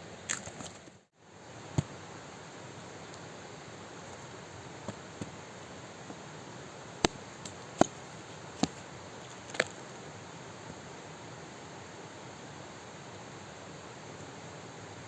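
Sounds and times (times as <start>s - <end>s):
steady hiss: 1.1s - 15.0s.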